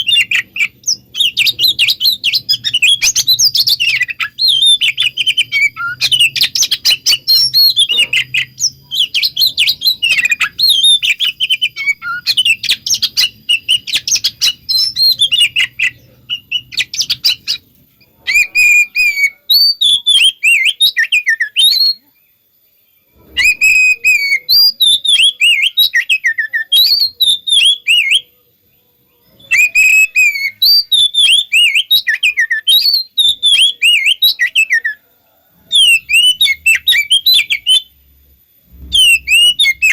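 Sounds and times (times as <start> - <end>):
bird singing chirps and whistles: 0.0 - 22.2, 23.1 - 28.3, 29.2 - 35.0, 35.7 - 38.0, 38.6 - 39.9.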